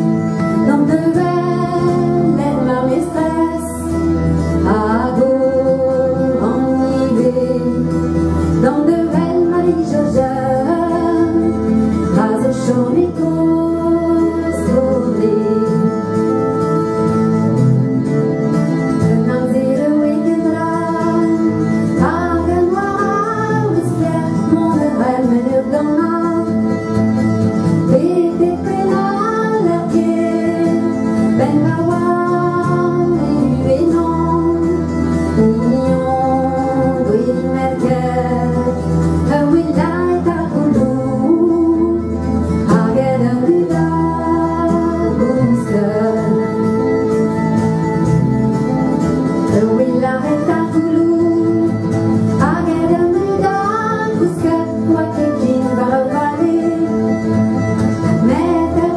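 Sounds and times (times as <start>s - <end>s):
woman singing: 0.0s - 17.9s, 18.8s - 58.9s
acoustic guitars: 0.0s - 58.9s.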